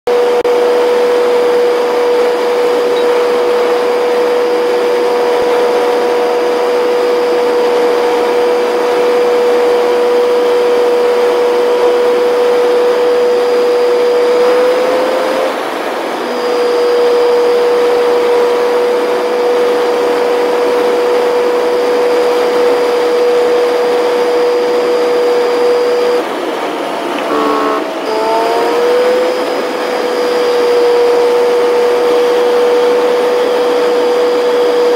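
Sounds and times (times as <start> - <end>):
high whine: 0.8 - 33.0.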